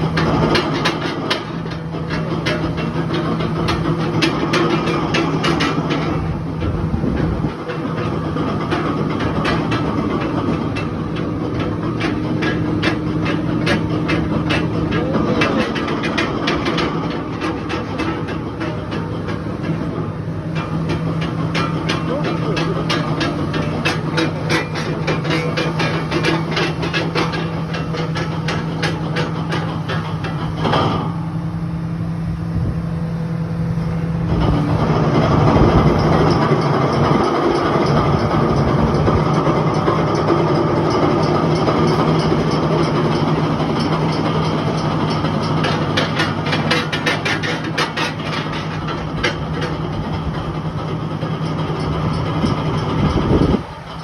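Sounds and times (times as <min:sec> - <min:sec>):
coal cracking in crusher bucket: 0:00.0 - 0:31.4, 0:34.4 - 0:54.0
excavator diesel engine running: 0:00.0 - 0:54.0.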